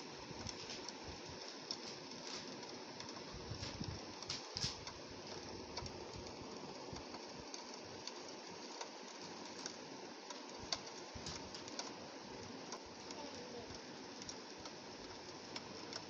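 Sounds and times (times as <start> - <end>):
rain on window glass: 0.0 - 16.0.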